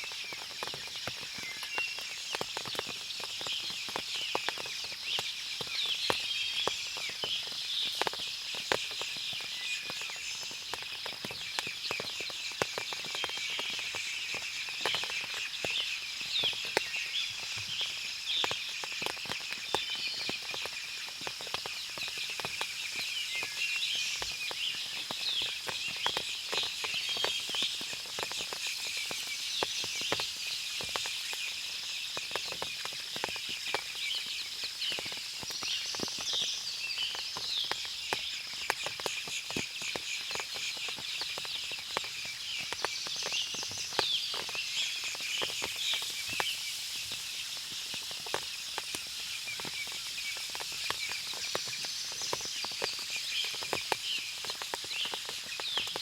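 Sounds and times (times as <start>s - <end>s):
insects chirping: 0.0s - 56.0s
small birds chirping: 0.0s - 56.0s
water dripping from trees: 0.0s - 56.0s.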